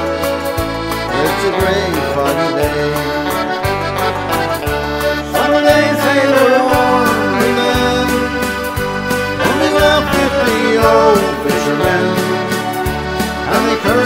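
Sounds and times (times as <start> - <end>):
bass line: 0.0 - 14.0
button accordion melody: 0.0 - 14.0
drum beats: 0.0 - 14.0.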